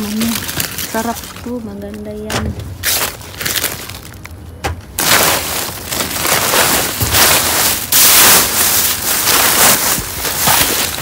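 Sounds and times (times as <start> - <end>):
plastic bags rustling and crinkling: 0.0 - 11.0.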